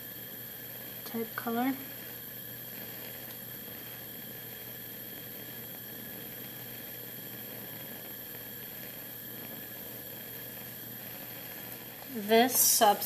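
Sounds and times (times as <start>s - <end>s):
bunsen burner hissing: 0.0s - 13.0s.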